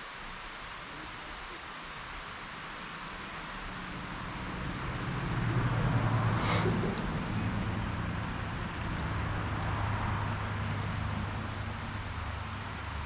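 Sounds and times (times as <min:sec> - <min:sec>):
steady hiss: 0:00.0 - 0:13.0
low engine hum: 0:00.7 - 0:13.0.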